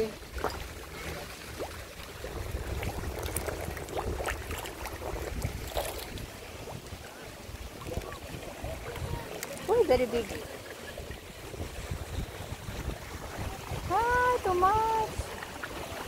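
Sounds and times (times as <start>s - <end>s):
fish splashing and slurping: 0.0s - 16.0s
wind rumble on microphone: 0.0s - 16.0s.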